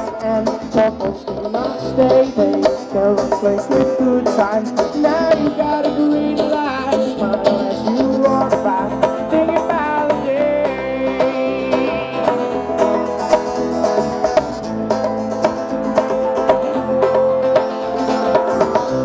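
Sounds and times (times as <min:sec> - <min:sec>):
electric bass: 0:00.0 - 0:19.0
guitar melody with bending notes: 0:00.0 - 0:19.0
hand drums: 0:00.0 - 0:19.0.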